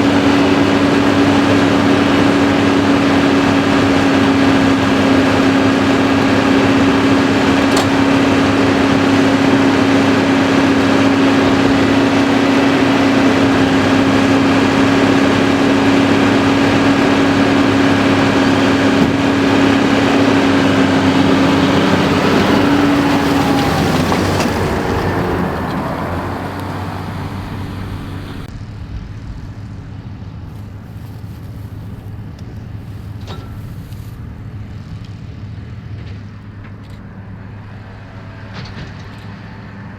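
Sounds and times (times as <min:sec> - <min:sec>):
steady whine: 0:00.0 - 0:34.6
baler machinery drone: 0:00.0 - 0:39.9
tractor diesel engine under load: 0:00.0 - 0:39.9.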